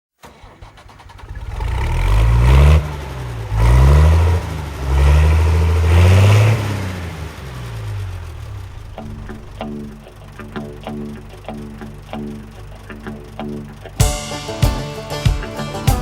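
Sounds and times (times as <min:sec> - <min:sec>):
large engine revving: 0:00.2 - 0:14.0.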